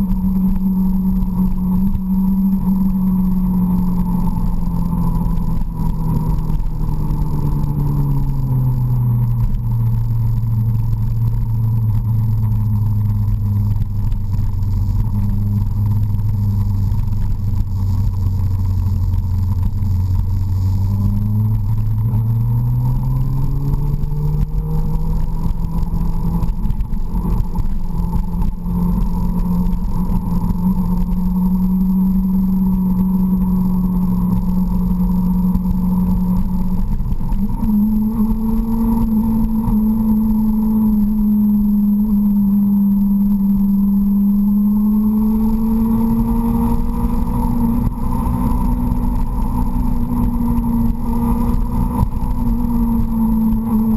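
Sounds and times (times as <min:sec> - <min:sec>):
low rumble: 0:00.0 - 0:53.9
motorcycle engine running: 0:00.0 - 0:53.9.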